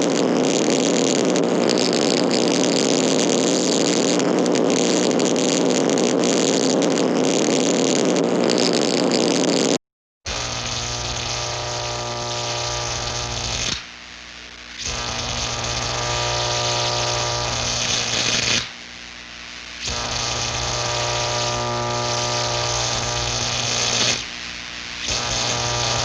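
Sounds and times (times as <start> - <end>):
electric buzz with hum: 0.0 - 9.7, 10.3 - 26.0.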